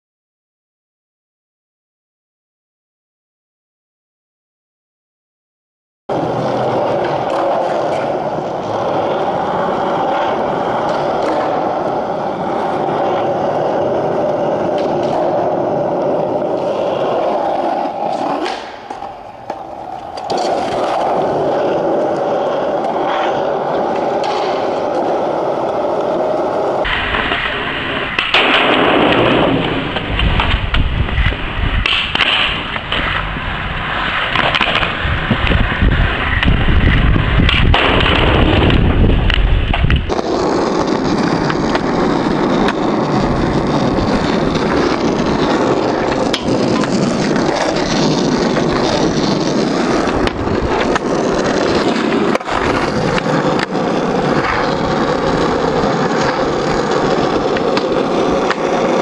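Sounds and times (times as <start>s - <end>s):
skateboard clacks: 6.1s - 59.0s
skateboard wheels rolling on pavement: 6.1s - 59.0s.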